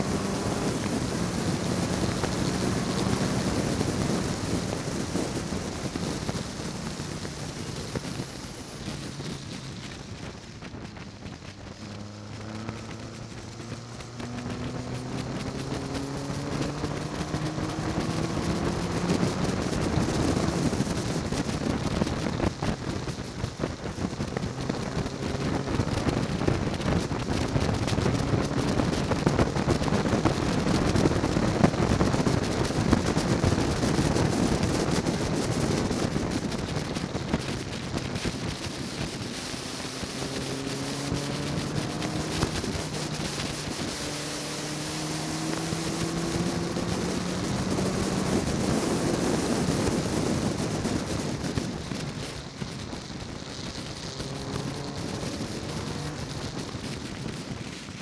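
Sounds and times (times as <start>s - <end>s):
sports car engine at speed: 0.0s - 58.0s
wind rush: 0.0s - 58.0s.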